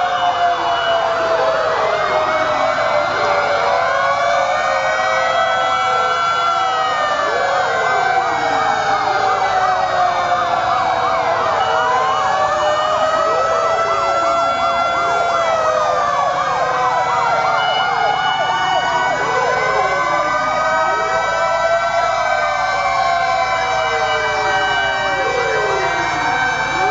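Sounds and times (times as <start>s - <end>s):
fire engine sirens wailing: 0.0s - 26.9s
siren warbling yelp: 0.0s - 26.9s.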